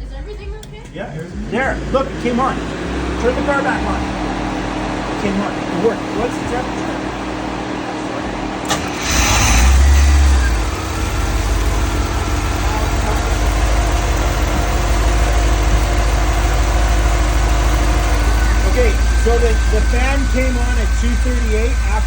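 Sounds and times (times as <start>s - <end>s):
car engine starting and idling: 0.0s - 22.0s
electric radiator fan running: 0.0s - 22.0s.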